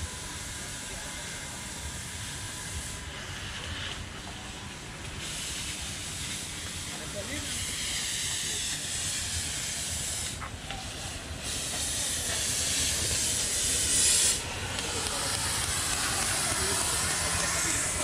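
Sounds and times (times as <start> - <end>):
gas cutting torch hissing: 0.0 - 18.0.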